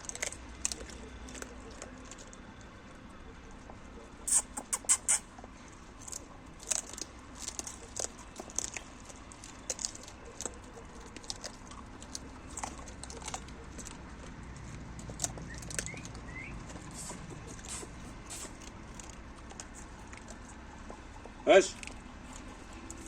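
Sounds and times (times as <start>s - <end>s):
dogs crunching food: 0.0s - 23.0s.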